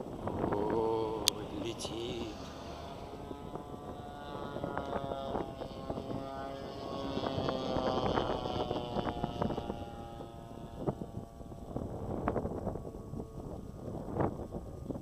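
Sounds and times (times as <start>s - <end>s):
model plane engine running: 0.0s - 15.0s.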